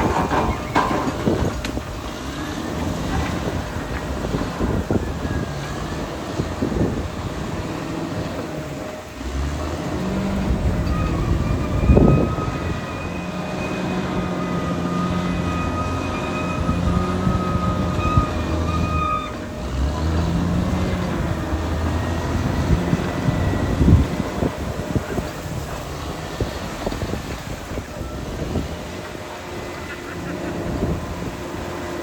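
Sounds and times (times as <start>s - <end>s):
bulldozer diesel engine working: 0.0s - 32.0s.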